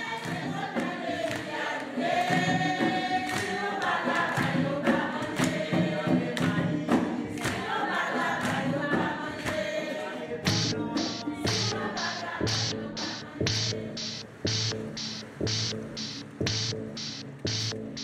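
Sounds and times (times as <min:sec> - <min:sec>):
group singing unaccompanied: 0:00.0 - 0:18.0
hand claps: 0:00.1 - 0:09.7, 0:10.4 - 0:18.0.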